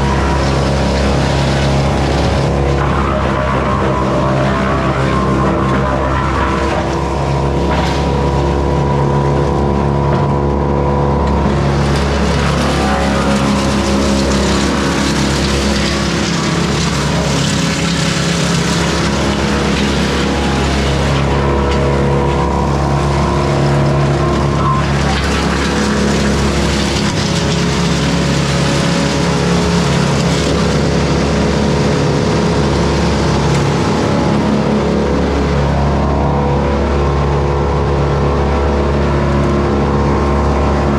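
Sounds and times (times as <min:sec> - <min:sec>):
branches chipping and grinding: 0:00.0 - 0:37.2
wood chipper engine running: 0:00.0 - 0:40.9.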